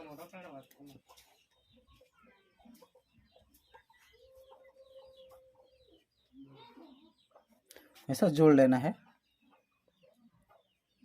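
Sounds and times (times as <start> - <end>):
chickens calling: 0.0 - 11.0
small bird chirps: 0.1 - 8.1, 9.0 - 11.0.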